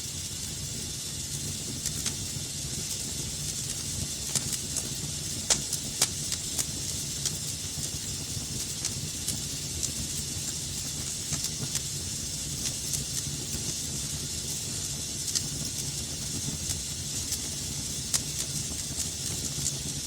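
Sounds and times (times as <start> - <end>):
fire crackling and popping: 0.0 - 20.0
fire hissing and rumbling: 0.0 - 20.0.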